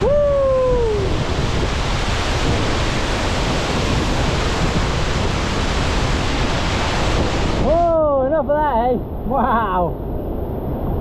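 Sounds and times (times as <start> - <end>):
waterfall rushing: 0.0 - 10.9
wind on microphone: 0.0 - 11.0.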